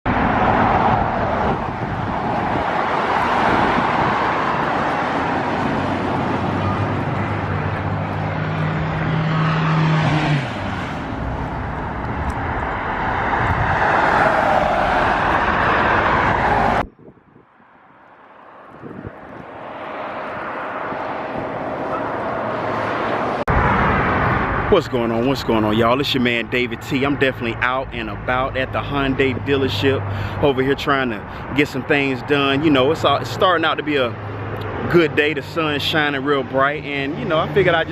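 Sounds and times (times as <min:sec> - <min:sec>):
car road and wind noise: 0:00.1 - 0:37.9.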